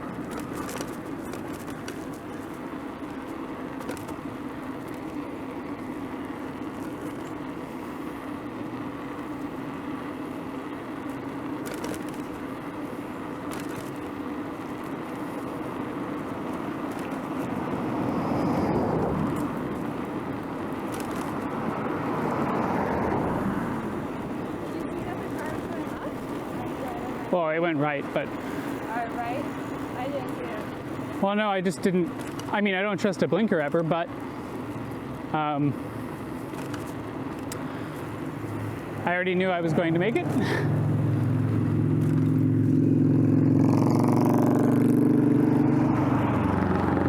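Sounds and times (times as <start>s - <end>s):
motor vehicles passing: 0.0s - 47.0s
road and wind noise: 0.0s - 47.0s.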